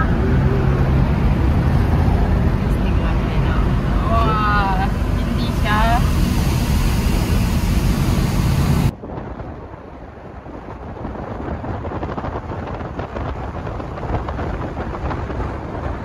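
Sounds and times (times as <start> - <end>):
car road noise: 0.0 - 16.0
wind buffeting microphone: 0.0 - 16.0.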